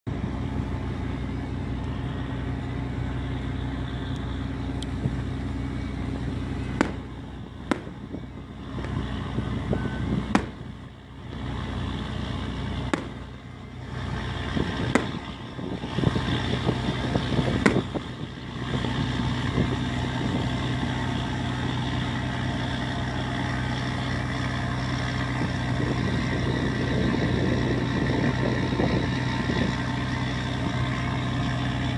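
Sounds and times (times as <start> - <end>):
boat engine droning: 0.0 - 31.9.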